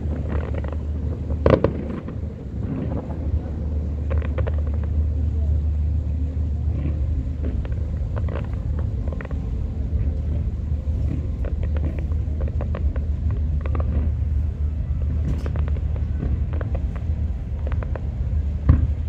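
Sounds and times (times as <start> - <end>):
distant fireworks bangs: 0.0 - 5.9, 6.6 - 19.0
steady low rumble: 0.0 - 19.0.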